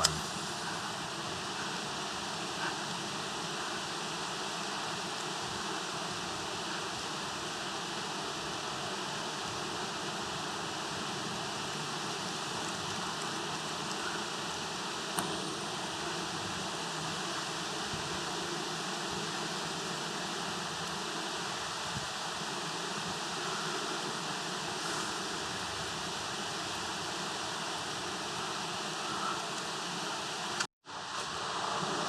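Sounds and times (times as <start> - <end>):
outdoor hiss: 0.0 - 32.0.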